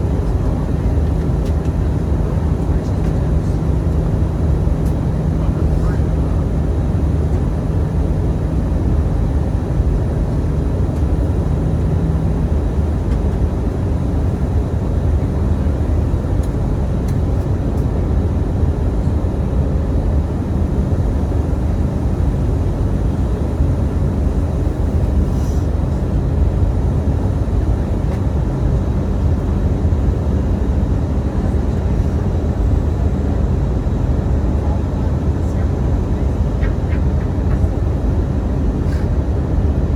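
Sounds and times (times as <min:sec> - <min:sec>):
jet plane in flight rumble: 0:00.0 - 0:39.9.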